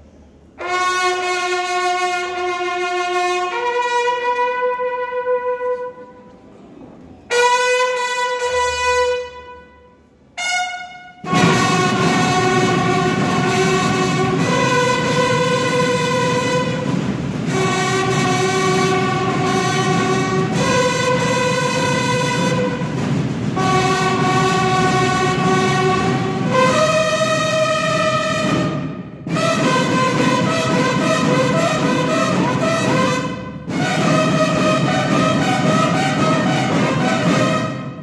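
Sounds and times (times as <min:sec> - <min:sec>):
brass band playing long chords: 0:00.5 - 0:06.4, 0:07.2 - 0:38.0.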